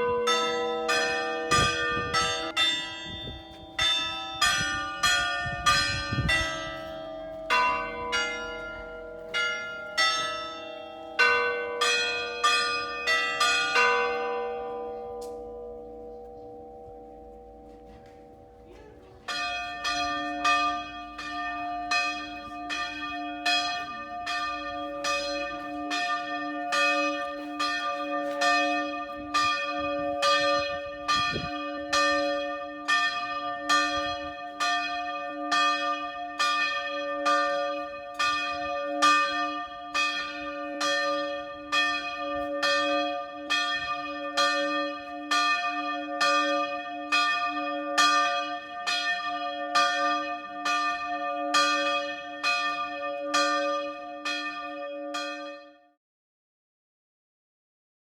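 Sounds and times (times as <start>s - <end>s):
church bell ringing: 0.0s - 56.0s.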